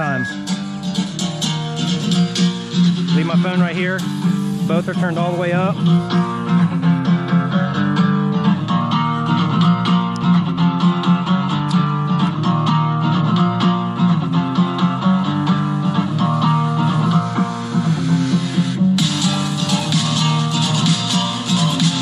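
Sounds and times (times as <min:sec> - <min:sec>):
guitar music through speakers: 0:00.0 - 0:22.0
steady bass line: 0:00.0 - 0:22.0.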